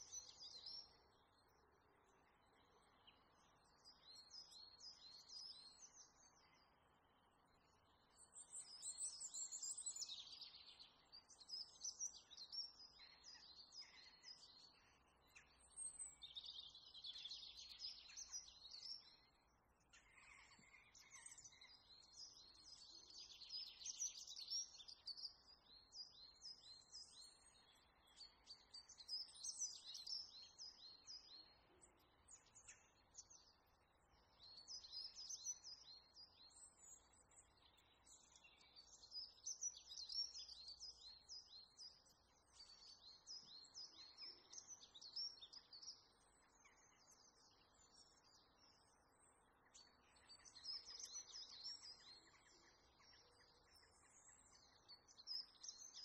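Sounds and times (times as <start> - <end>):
birds chirping and twittering: 0.0 - 56.0
low steady hiss: 0.0 - 56.0.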